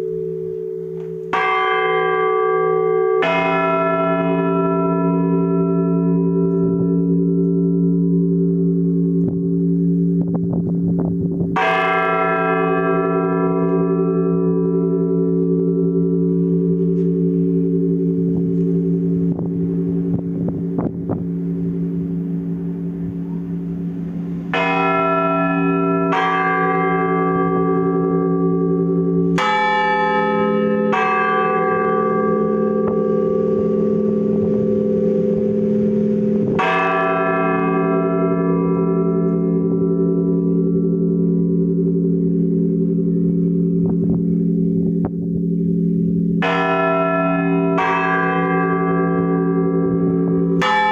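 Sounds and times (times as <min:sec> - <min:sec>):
church bells tolling: 0:00.0 - 0:50.9.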